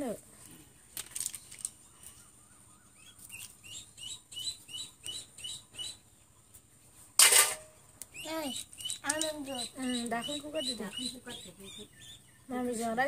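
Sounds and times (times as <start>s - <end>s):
bird chirping: 1.2s - 13.0s.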